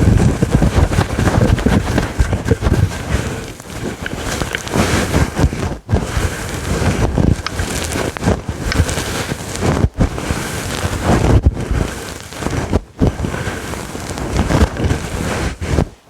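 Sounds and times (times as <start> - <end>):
scratching on fluffy microphone cover: 0.0 - 16.0.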